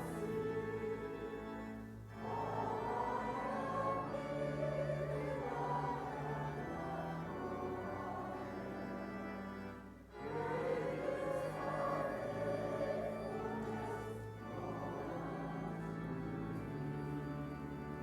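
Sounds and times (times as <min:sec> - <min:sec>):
pipe organ chords: 0:00.0 - 0:18.0
voices singing a hymn: 0:00.0 - 0:18.0.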